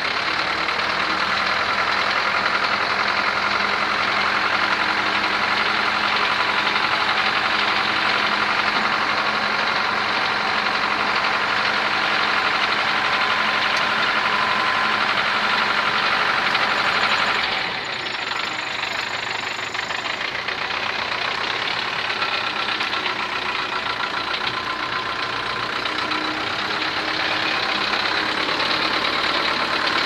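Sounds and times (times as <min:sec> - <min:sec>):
heavy machinery diesel engine running: 0:00.0 - 0:30.0.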